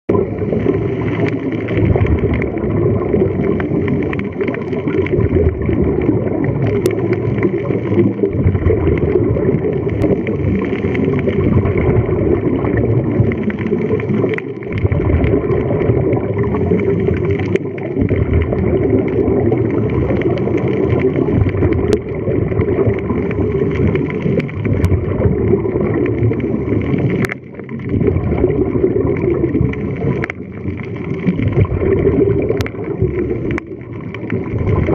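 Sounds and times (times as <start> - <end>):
underwater gurgling and bubbles: 0.0 - 34.9.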